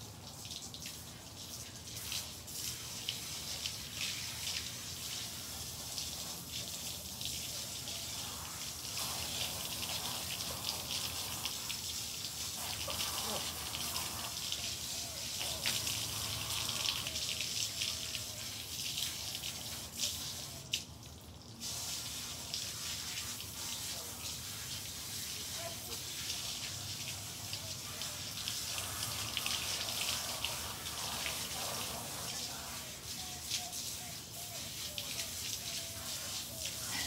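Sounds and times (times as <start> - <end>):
hose water spraying on concrete: 0.0 - 37.0.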